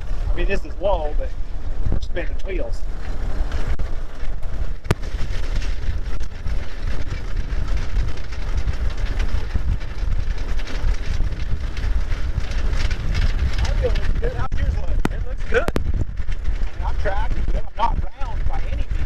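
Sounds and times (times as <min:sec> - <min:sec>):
steel wheels rolling on rails: 0:00.0 - 0:19.0
wind noise on microphone: 0:00.0 - 0:19.0.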